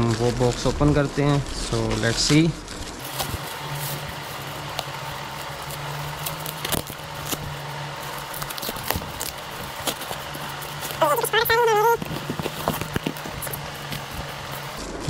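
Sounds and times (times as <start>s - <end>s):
plastic mailer crinkling and tearing: 0.0s - 15.0s
steady low hum: 0.0s - 15.0s
cardboard box torn open: 1.4s - 15.0s.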